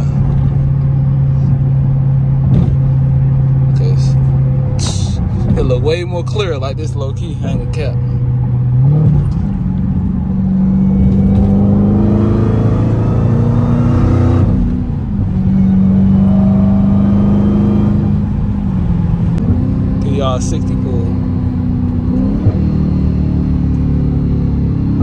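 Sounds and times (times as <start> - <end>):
car engine running while driving: 0.0 - 25.0.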